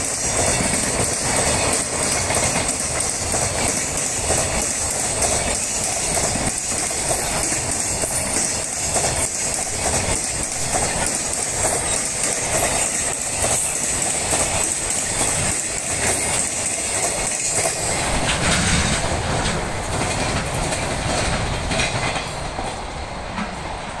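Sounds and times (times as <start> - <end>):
train rumble: 0.0 - 24.0
train wheels clacking on rail joints: 0.0 - 24.0.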